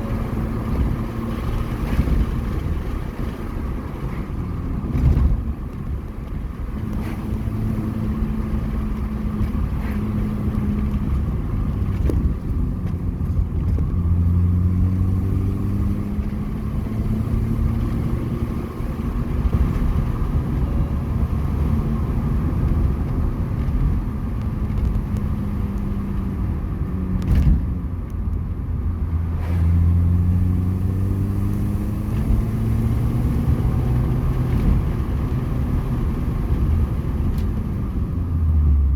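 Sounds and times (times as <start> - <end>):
car engine accelerating: 0.0 - 38.9
tyre and road noise: 0.0 - 38.9.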